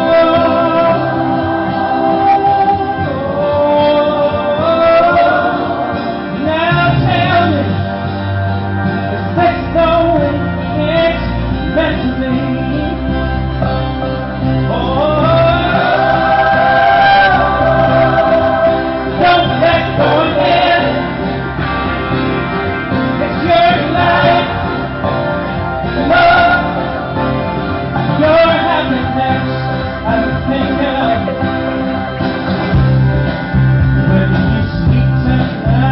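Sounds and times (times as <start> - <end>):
man singing: 0.0 - 8.2, 9.0 - 13.3, 14.6 - 21.3, 23.0 - 32.1, 33.8 - 35.9
band playing a slow song: 0.0 - 35.9.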